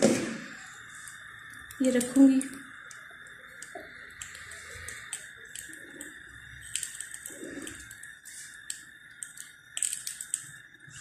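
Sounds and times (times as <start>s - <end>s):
steady hiss: 0.0s - 11.0s
aluminium foil crinkling: 1.0s - 11.0s.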